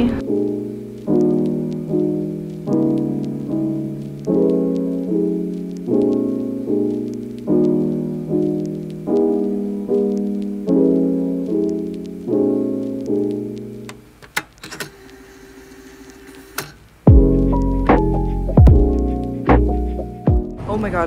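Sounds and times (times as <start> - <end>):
piano chords: 0.0 - 14.2, 17.0 - 21.0.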